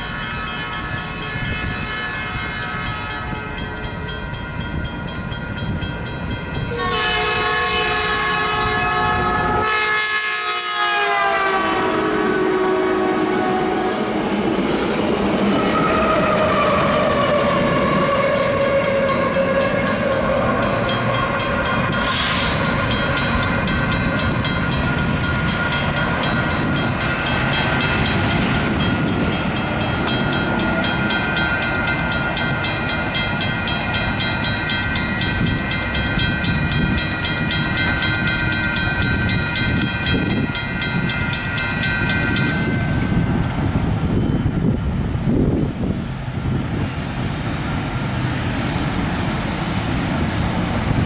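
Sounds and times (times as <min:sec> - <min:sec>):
crossing warning bells ringing: 0:00.0 - 0:46.6
train rumble: 0:00.0 - 0:51.0.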